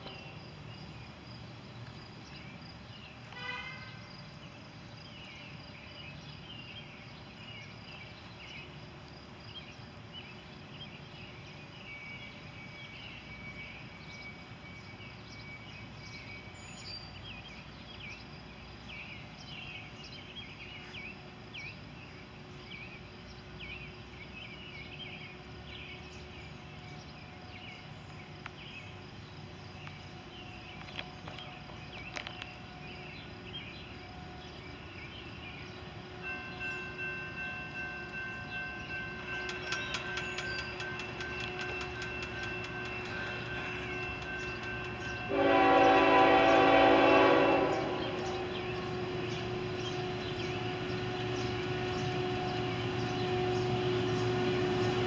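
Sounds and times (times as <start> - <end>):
bird and insect chirps: 0.0 - 55.0.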